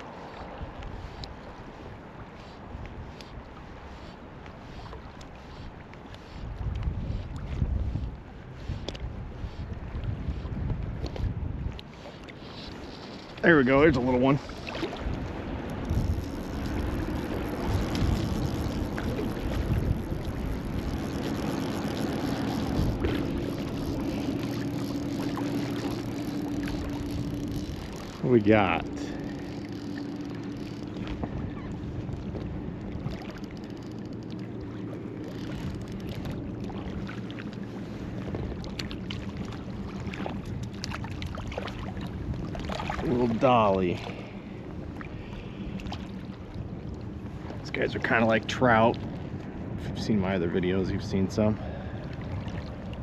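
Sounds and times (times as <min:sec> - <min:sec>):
water lapping: 0:00.0 - 0:53.0
wind buffeting microphone: 0:00.0 - 0:53.0.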